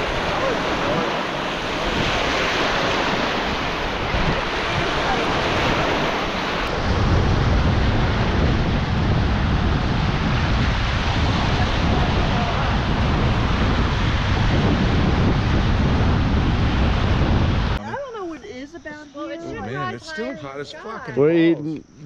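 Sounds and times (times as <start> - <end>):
wind noise on microphone: 0.0 - 17.8
waves washing onto beach: 0.0 - 17.9.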